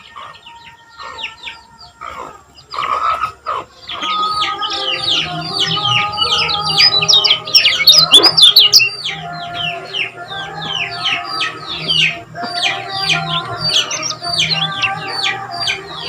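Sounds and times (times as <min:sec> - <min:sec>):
bird chirping rapidly: 0:02.6 - 0:16.0.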